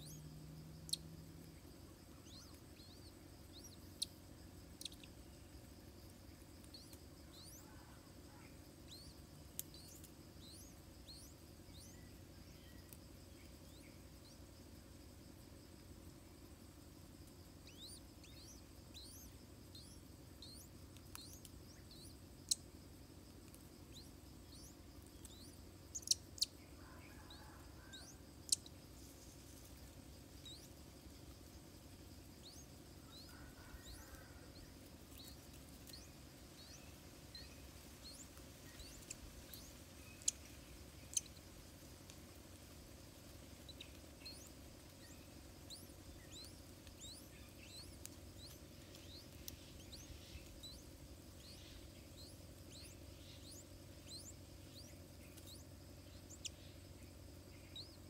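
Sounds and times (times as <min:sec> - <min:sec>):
faint bird chirping: 0:00.0 - 0:58.0.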